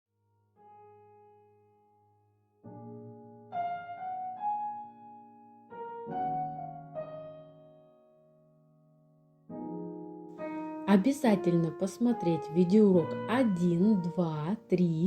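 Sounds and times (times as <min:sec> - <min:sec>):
soft piano chords: 0:00.3 - 0:15.0.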